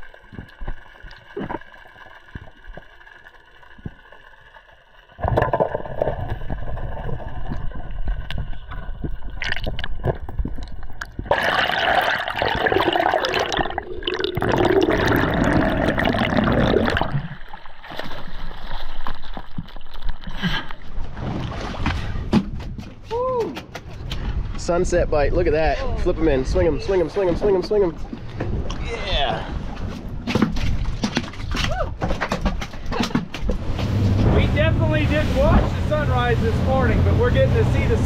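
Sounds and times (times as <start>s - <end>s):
water gurgling and sloshing: 0.0s - 23.1s, 23.7s - 38.0s.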